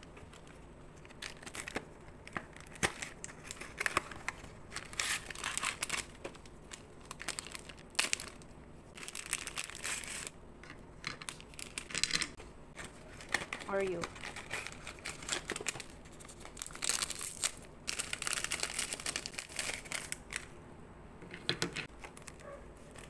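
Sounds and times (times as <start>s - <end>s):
foil wrapper crinkling: 0.0s - 10.4s, 11.2s - 12.2s, 12.8s - 20.5s, 21.9s - 23.0s.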